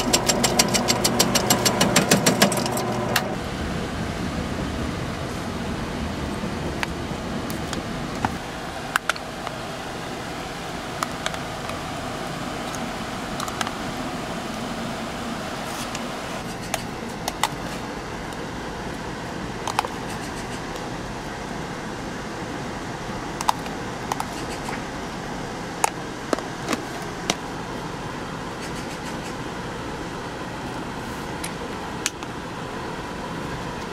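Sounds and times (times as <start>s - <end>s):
machine hum: 0.0s - 33.9s.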